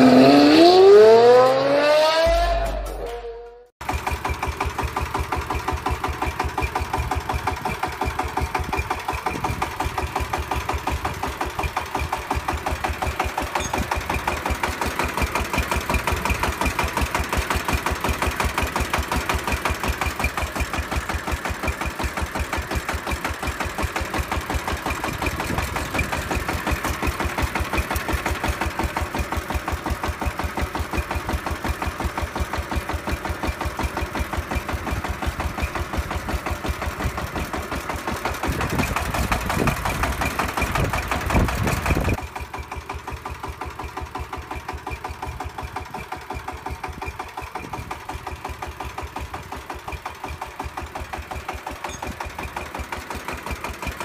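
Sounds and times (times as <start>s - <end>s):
small engine chugging at idle: 3.8s - 54.0s.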